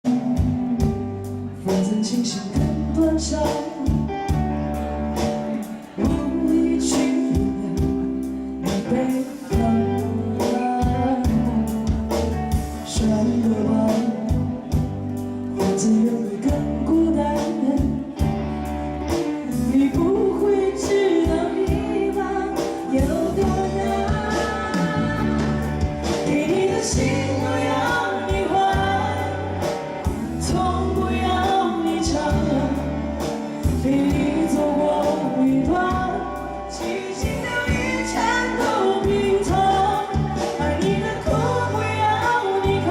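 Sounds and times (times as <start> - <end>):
live band playing: 0.0 - 42.9
person singing: 0.0 - 42.9.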